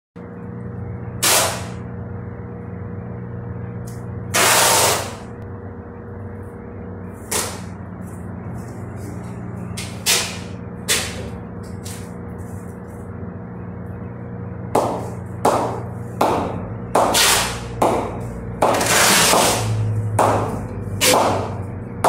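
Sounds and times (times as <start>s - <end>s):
steady background hum: 0.2s - 22.0s.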